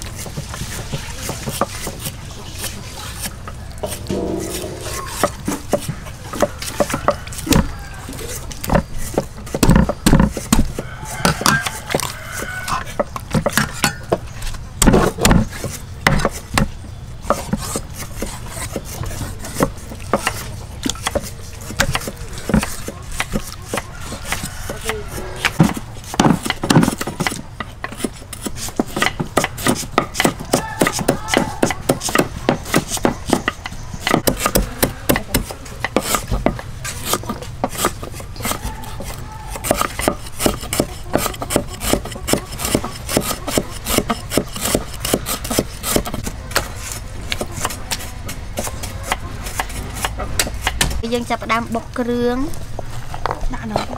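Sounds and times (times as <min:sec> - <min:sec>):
cleavers chopping on wood: 0:00.1 - 0:51.1.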